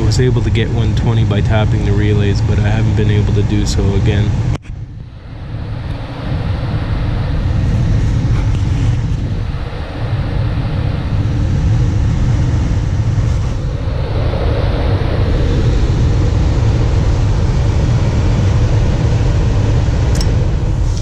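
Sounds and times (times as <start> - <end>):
furnace blower fan running: 0.0 - 21.0.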